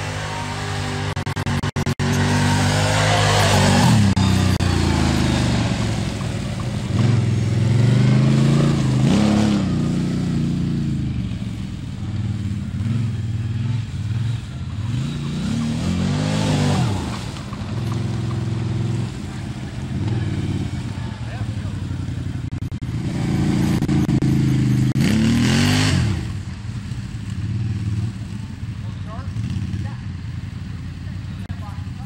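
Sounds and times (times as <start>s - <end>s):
atv engines revving: 0.0s - 32.0s.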